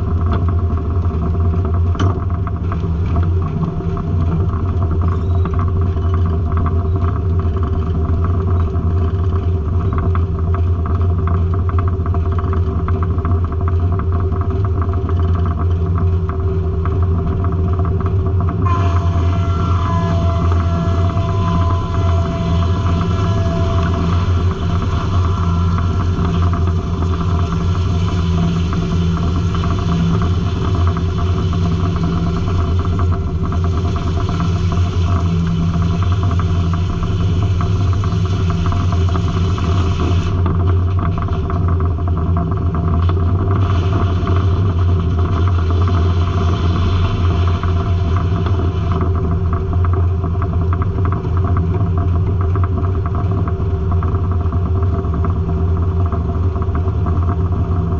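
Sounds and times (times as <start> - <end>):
sawmill engine drone: 0.0 - 57.9.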